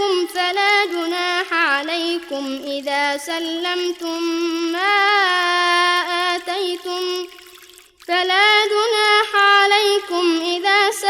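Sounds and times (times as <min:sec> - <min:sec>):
person chanting recitation: 0:00.0 - 0:07.3, 0:08.1 - 0:11.0.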